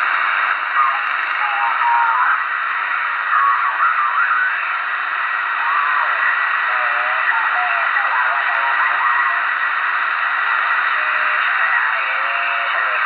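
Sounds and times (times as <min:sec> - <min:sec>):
distorted radio voices: 0:00.0 - 0:13.0
radio static hiss: 0:00.0 - 0:13.0.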